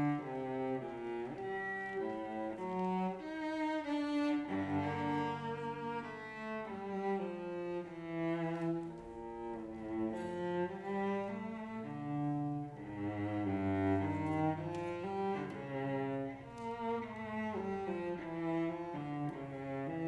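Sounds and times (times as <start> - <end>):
cello playing sustained notes: 0.0 - 20.0.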